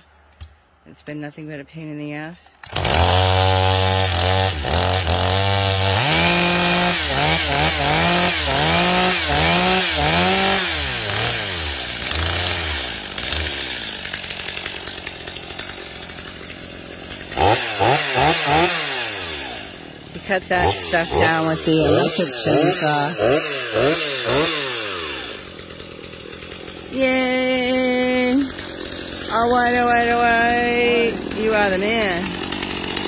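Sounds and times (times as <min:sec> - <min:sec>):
chainsaw engine revving: 0:02.6 - 0:33.0.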